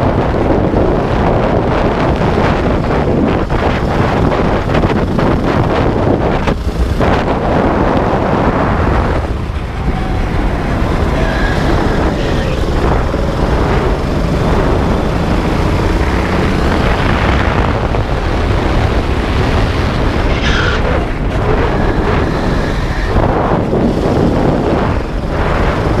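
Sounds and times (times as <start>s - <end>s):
go-kart engine running hard: 0.0s - 26.0s
wind noise on microphone: 0.0s - 26.0s.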